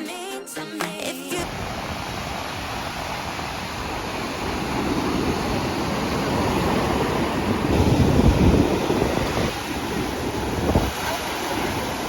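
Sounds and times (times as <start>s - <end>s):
ocean surf: 0.0s - 12.0s
wind buffeting microphone: 1.6s - 12.0s.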